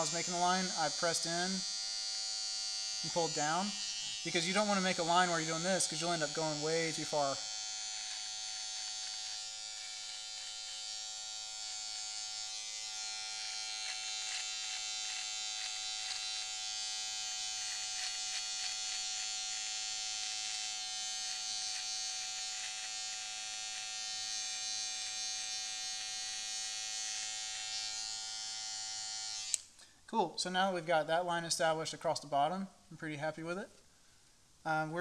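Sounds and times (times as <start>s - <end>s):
electric beard trimmer running: 0.0s - 29.7s
trimmer blade crackling on hair: 0.0s - 29.7s.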